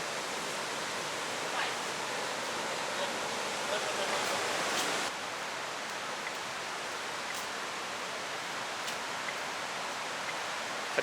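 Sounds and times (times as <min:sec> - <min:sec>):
waterfall roar: 0:00.0 - 0:11.0.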